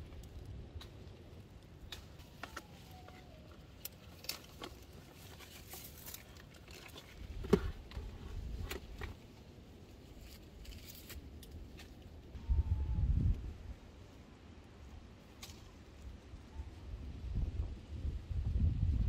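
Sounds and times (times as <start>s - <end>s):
leaves and twigs rustling: 0.0s - 17.3s.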